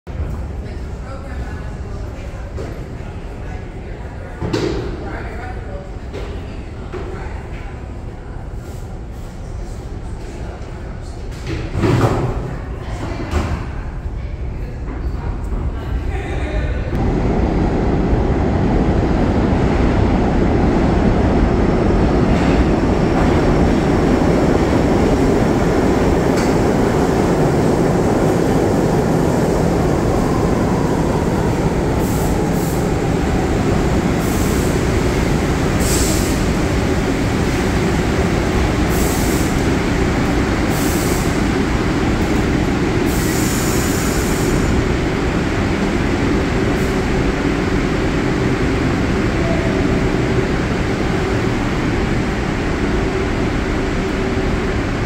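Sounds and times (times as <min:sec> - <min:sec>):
subway train wheels rumbling: 0:00.1 - 0:55.0.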